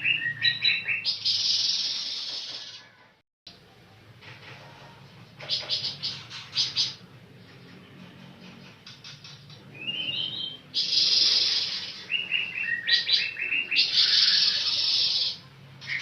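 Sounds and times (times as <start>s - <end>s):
songbird singing: 0.0s - 2.9s, 5.4s - 16.0s.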